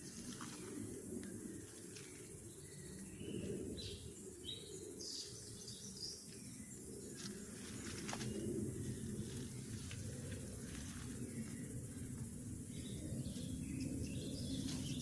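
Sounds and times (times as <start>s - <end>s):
high insect hum: 0.0s - 15.0s
birds chirping: 1.6s - 15.0s.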